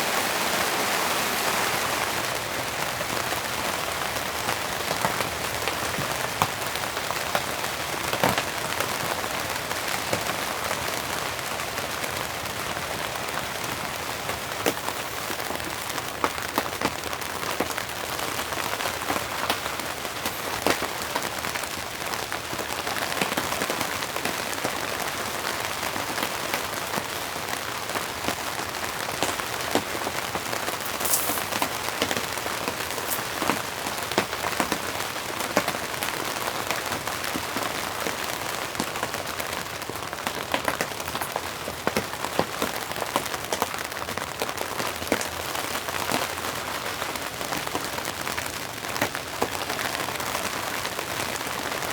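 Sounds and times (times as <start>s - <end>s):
rain falling: 0.0s - 51.9s
raindrops tapping close by: 0.0s - 51.9s.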